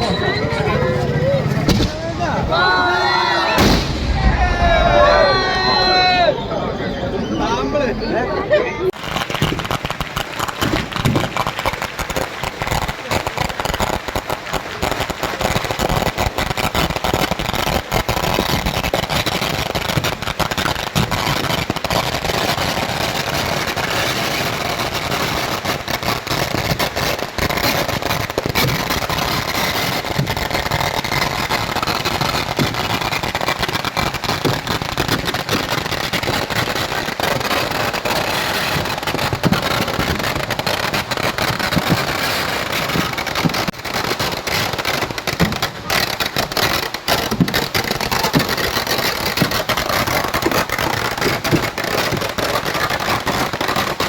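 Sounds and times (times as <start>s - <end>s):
fireworks bangs crackling: 0.0s - 54.0s.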